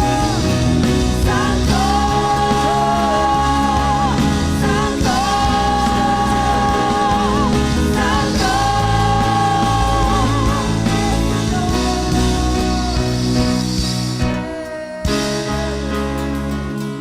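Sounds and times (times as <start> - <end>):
band accompaniment: 0.0 - 17.0
person singing with vibrato: 0.0 - 17.0.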